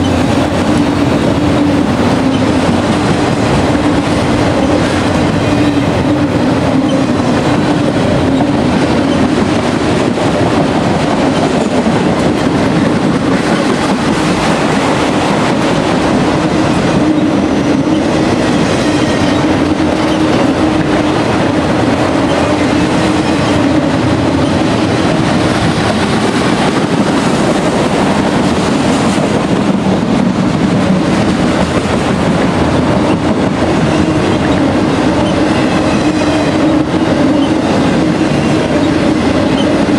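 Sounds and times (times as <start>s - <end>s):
train rumble: 0.0s - 39.9s
train wheels clicking on rails: 0.0s - 39.9s.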